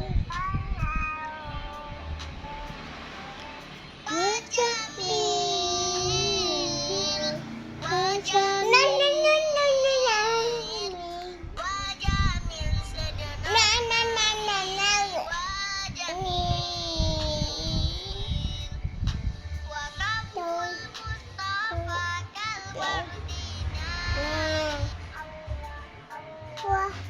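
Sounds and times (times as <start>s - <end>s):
child singing: 0.0s - 18.7s, 19.7s - 27.0s.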